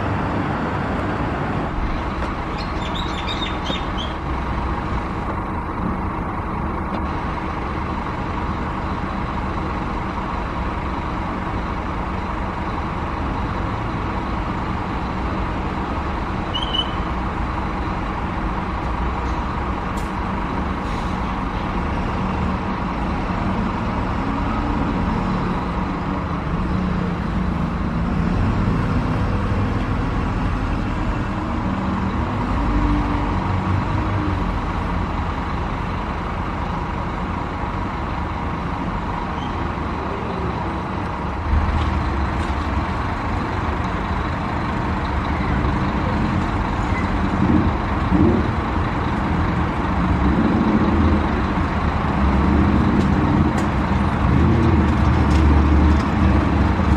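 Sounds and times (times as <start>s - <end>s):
heavy vehicle engine: 0.0s - 56.9s
road traffic noise: 0.0s - 56.9s.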